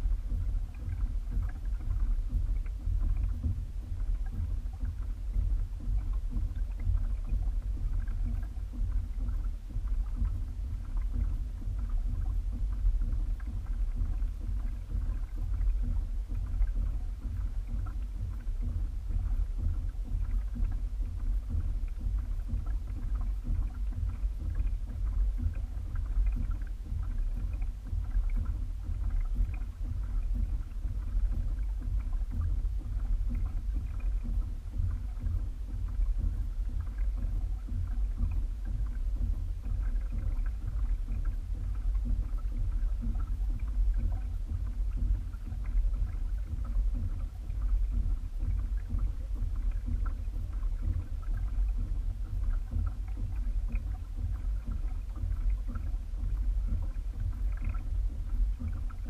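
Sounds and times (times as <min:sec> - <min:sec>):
water rumbling along hull: 0:00.0 - 0:59.0
wind on microphone: 0:00.0 - 0:59.0.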